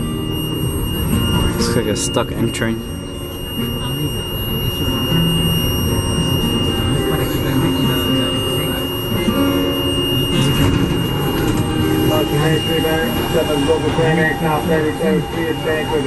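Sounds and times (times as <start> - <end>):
alarm high steady tone: 0.0 - 16.0
subway train running noise: 0.0 - 16.0.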